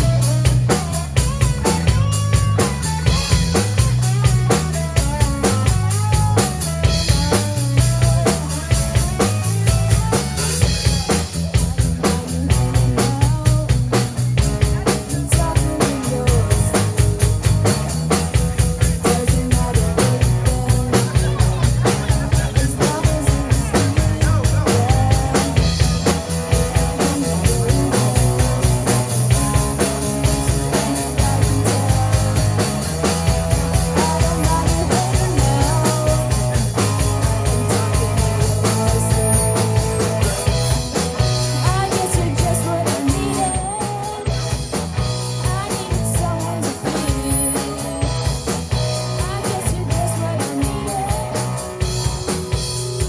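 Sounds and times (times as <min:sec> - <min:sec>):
rock music: 0:00.0 - 0:53.0
steady drum beat: 0:00.0 - 0:53.0
sustained bass notes: 0:00.0 - 0:53.0.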